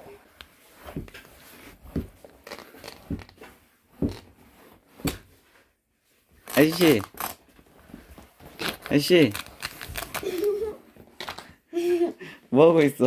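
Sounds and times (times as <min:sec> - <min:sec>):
clothing rustling on sofa: 0:00.0 - 0:11.2.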